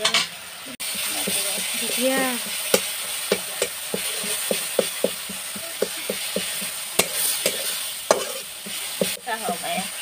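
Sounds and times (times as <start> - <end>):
food sizzling: 0.0 - 10.0
metal spatula scraping pan: 0.8 - 10.0.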